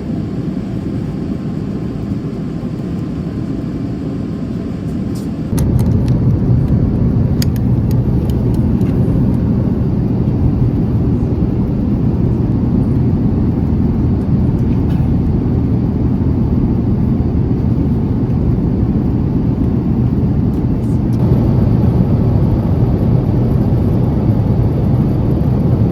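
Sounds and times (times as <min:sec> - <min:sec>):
jet engine cabin rumble: 0:00.0 - 0:25.9.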